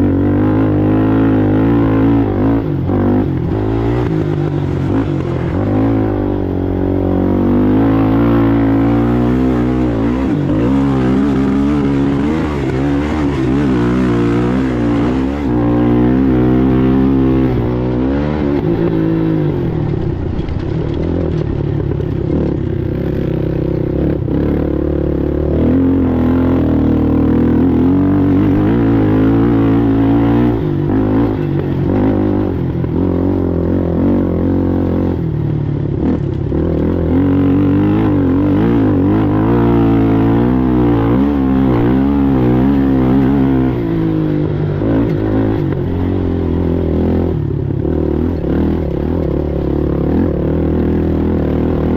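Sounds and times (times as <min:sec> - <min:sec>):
atv engine revving: 0:00.0 - 0:51.9.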